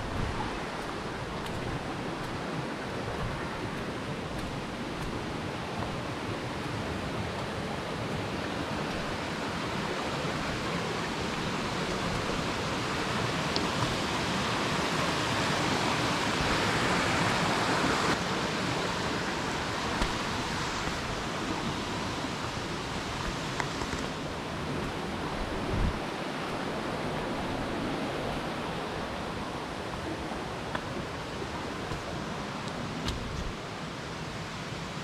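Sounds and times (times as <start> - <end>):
stream water rushing over rocks: 0.0 - 35.0.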